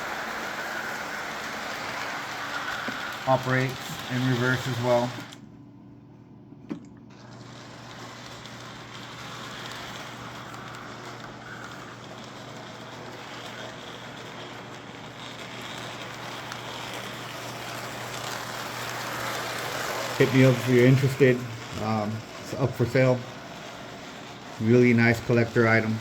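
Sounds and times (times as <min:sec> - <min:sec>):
wheels clattering on rails: 0:00.0 - 0:05.3, 0:07.7 - 0:26.0
toy train motor whirring: 0:00.0 - 0:05.4, 0:07.1 - 0:26.0.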